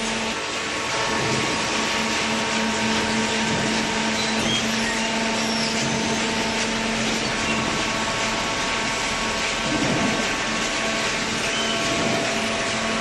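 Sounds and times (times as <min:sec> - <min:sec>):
hydraulic baler humming: 0:00.0 - 0:13.0.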